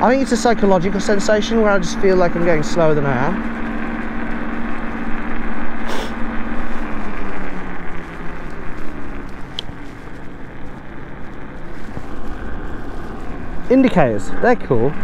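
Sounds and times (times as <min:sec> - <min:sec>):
electric scooter motor hum: 0:00.0 - 0:15.0.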